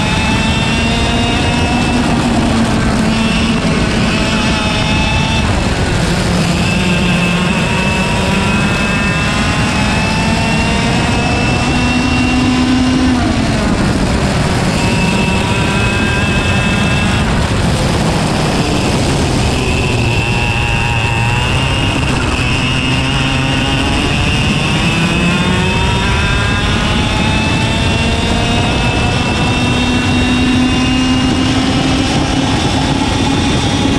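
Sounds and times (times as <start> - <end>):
kart engine at full throttle: 0.0 - 33.9
wind noise: 0.0 - 33.9.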